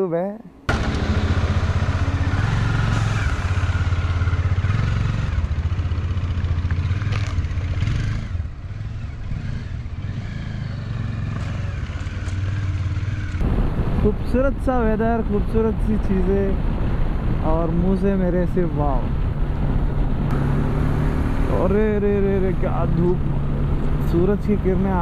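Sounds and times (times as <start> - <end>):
motorcycle engine cruising: 0.7 - 15.0, 16.0 - 25.0.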